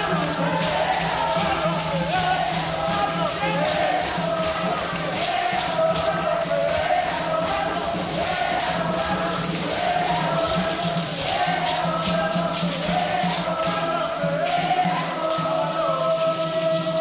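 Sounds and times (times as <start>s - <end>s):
shaken rattle percussion: 0.0s - 17.0s
women singing in unison: 0.0s - 17.0s.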